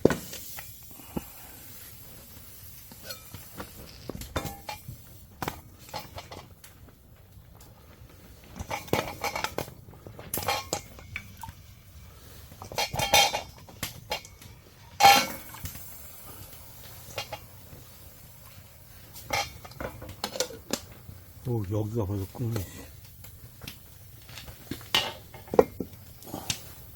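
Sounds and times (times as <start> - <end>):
pots and metal utensils clanking: 2.9 - 6.7, 8.3 - 26.9.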